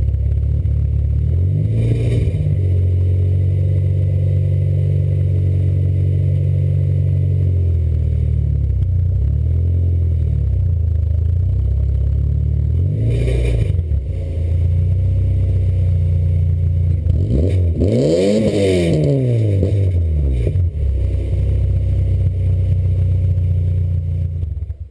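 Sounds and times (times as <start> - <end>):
car engine idling: 0.0 - 24.9
engine revving: 0.0 - 24.9.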